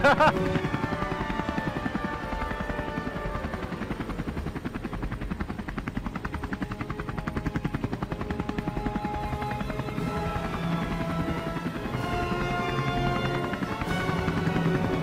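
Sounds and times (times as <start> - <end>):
helicopter engine drone: 0.0 - 15.0
helicopter rotor chopping: 0.0 - 15.0.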